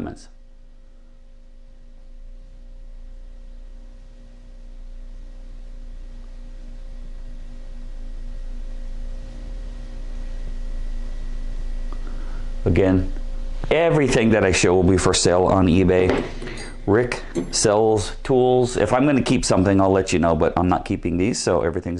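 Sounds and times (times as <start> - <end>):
electrical hum with faint tones: 0.0 - 21.9.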